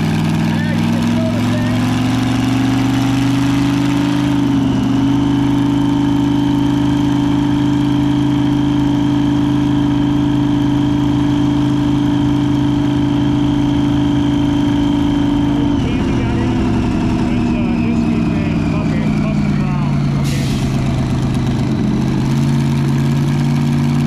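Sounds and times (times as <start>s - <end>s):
supercharged engine running: 0.0s - 24.0s.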